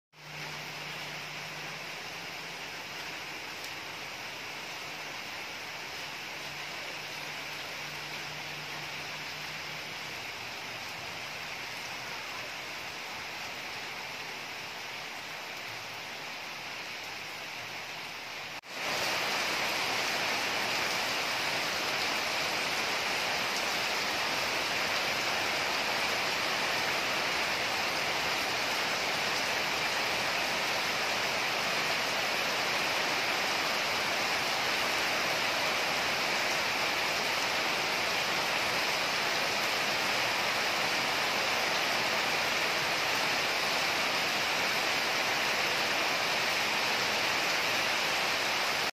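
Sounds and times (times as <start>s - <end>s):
heavy rain downpour: 0.1s - 48.9s
steady rain falling: 0.1s - 48.9s.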